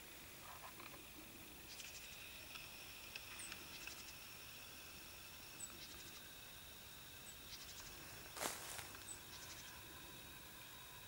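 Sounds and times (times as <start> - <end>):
distant small birds chirping: 0.0 - 11.0.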